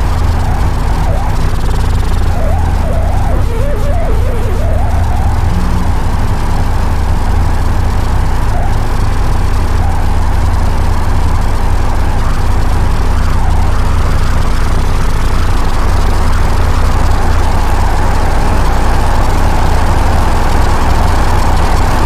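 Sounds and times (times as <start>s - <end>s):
constant hum: 0.0s - 22.0s
low rumbling drone: 0.0s - 22.0s.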